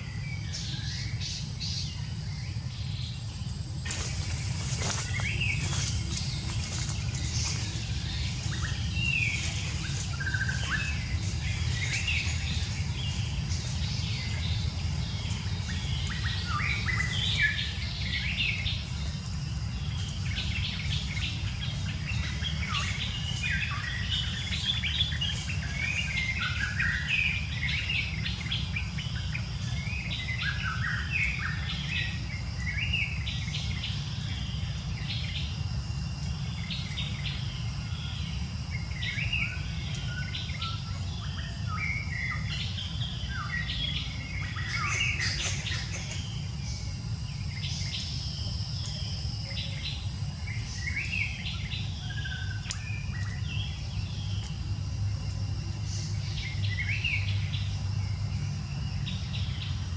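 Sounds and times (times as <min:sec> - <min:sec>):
birds chirping: 0:00.0 - 0:59.9
high insect tone: 0:00.0 - 0:59.9.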